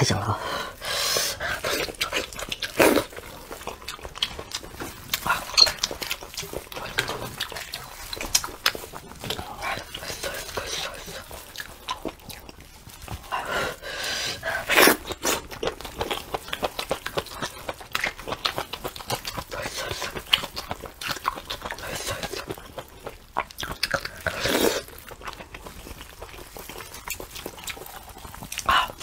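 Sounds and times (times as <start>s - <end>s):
wet chewing mouth clicks: 1.0s - 29.0s
meat tearing: 1.2s - 29.0s.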